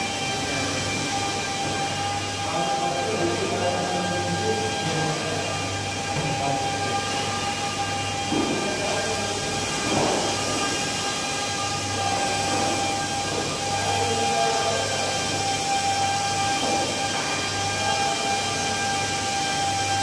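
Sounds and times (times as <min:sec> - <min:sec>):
polishing machine motor whine: 0:00.0 - 0:20.0.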